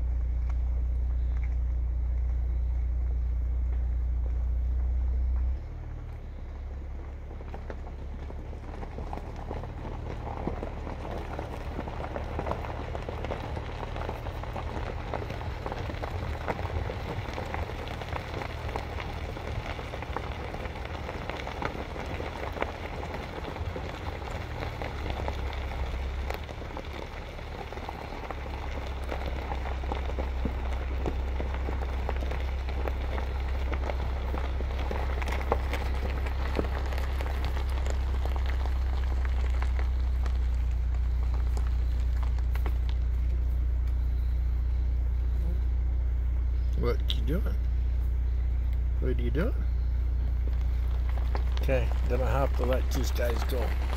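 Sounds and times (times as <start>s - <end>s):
tyres crunching gravel: 0.0s - 53.9s
vehicle engine hum: 0.0s - 53.9s.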